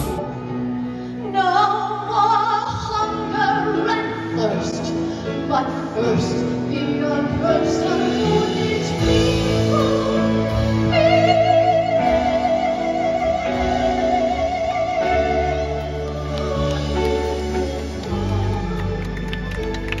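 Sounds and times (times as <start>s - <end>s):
woman singing: 0.0s - 20.0s
electric guitar: 3.1s - 20.0s.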